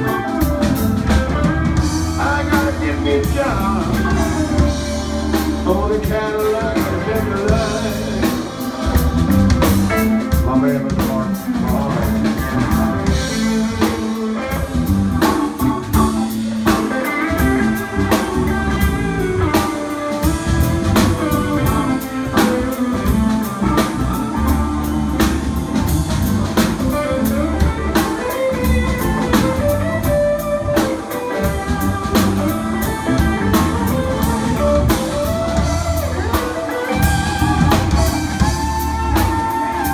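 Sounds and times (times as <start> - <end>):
drum kit beat: 0.0 - 39.9
electric bass: 0.0 - 39.9
electric guitar lead lines: 0.0 - 39.9.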